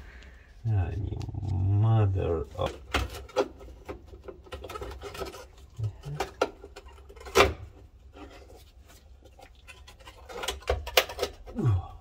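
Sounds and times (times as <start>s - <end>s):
plastic and metal scraping: 1.3s - 11.6s.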